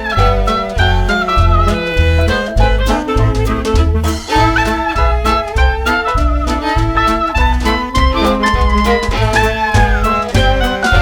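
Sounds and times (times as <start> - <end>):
upbeat swing instrumental music: 0.0 - 11.0.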